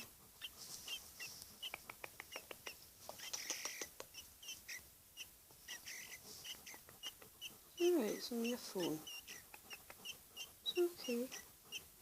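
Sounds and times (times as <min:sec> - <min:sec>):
blackbird chirping: 0:00.0 - 0:11.9.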